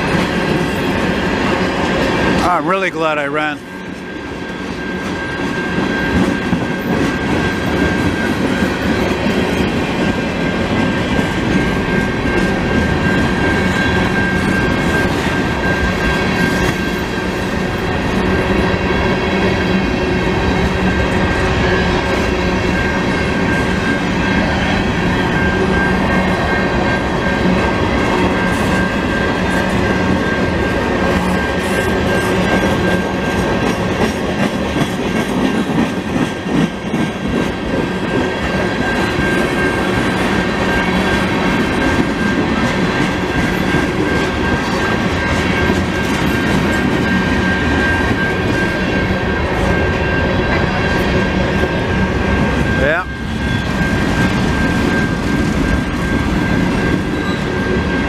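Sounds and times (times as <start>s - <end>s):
freight train wheels rumbling on rails: 0.0s - 58.0s
steady high-pitched tone: 0.0s - 58.0s.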